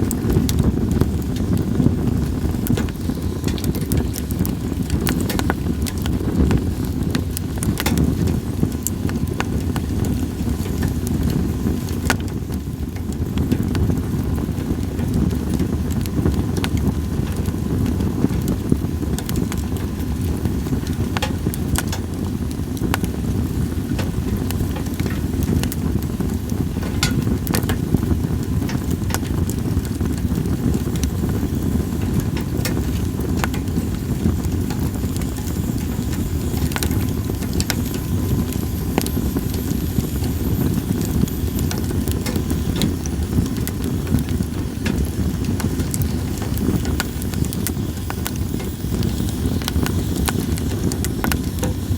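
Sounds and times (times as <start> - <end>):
campfire logs crackling: 0.0 - 51.9
high whistle of steam: 0.0 - 51.9
low fire rumble: 0.0 - 51.9
sharp pops of burning wood: 0.0 - 51.9.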